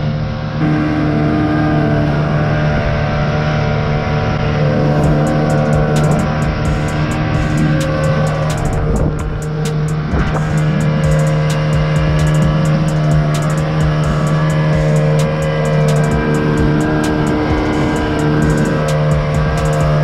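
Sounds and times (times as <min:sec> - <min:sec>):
outboard motor at high revs: 0:00.0 - 0:20.0.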